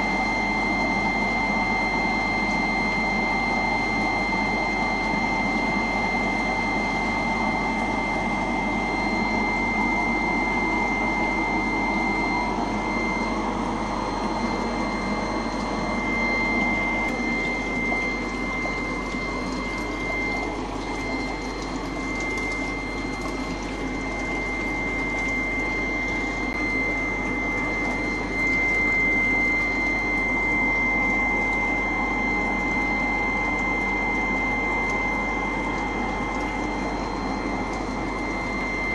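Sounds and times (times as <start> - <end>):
aquarium air pump humming: 0.0 - 38.9.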